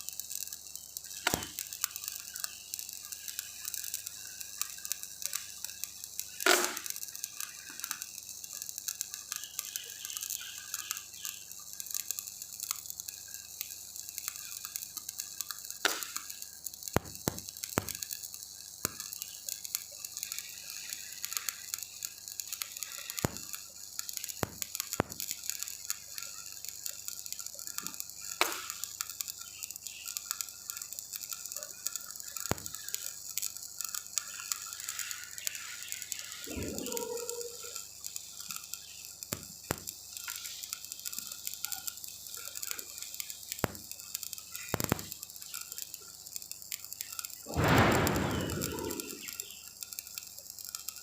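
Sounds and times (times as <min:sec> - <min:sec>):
welding arc crackling: 0:00.0 - 0:51.0.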